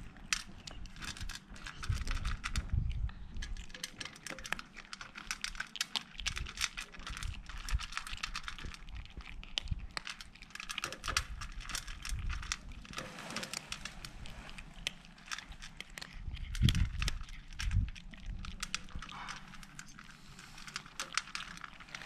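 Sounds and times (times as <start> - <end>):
kittens crunching dry kibble: 0.0 - 22.0.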